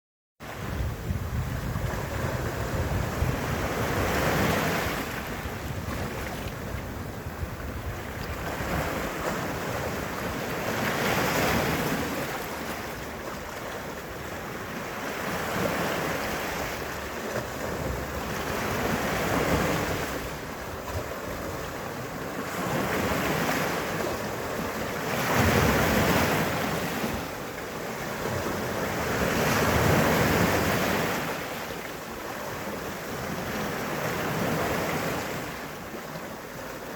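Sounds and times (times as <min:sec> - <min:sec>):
sea waves breaking on rocky shore: 0:00.4 - 0:36.9.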